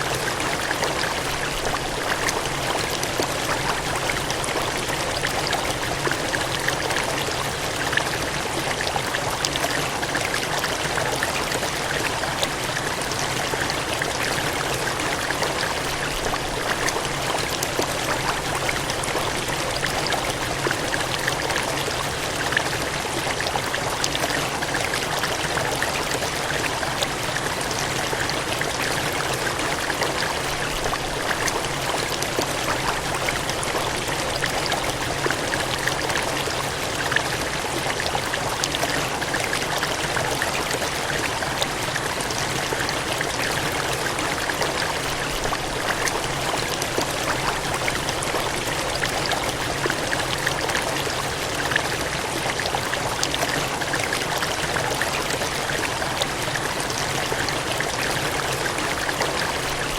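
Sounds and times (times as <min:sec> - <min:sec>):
gushing water: 0:00.0 - 0:59.9.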